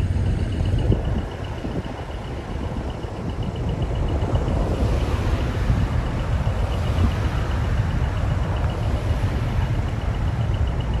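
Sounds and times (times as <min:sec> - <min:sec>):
diesel coach engine rumbling: 0:00.0 - 0:11.0.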